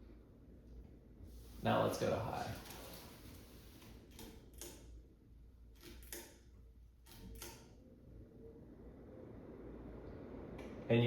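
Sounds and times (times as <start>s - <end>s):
ceiling fan motor hum: 0.0s - 11.0s.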